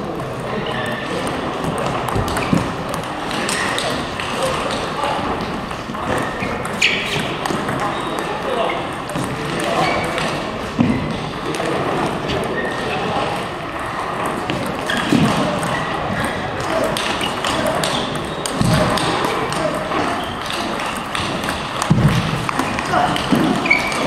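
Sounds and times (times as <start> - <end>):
voices in large hall: 0.0 - 24.0
table tennis balls clicking: 0.1 - 24.0.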